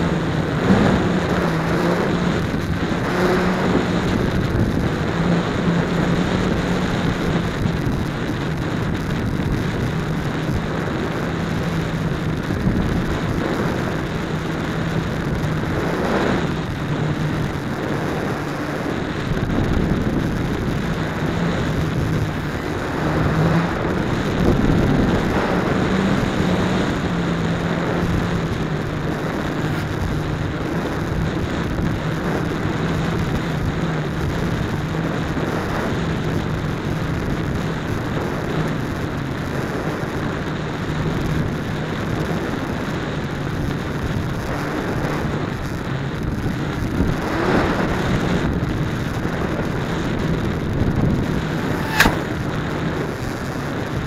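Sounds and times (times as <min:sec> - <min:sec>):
wind rush: 0:00.0 - 0:54.0.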